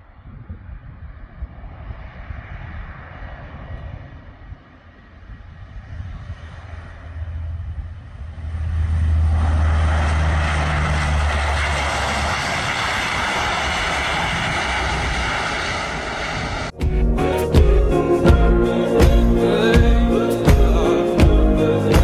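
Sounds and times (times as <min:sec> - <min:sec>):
propeller aircraft landing: 0:00.0 - 0:22.0.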